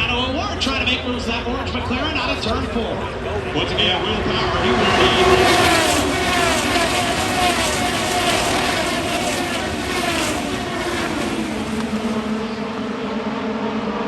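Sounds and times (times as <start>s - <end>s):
race cars passing at high revs: 1.6s - 14.0s.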